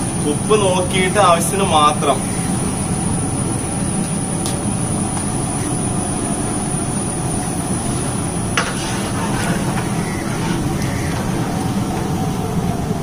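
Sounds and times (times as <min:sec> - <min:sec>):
cooking fire roaring: 0:00.0 - 0:13.0.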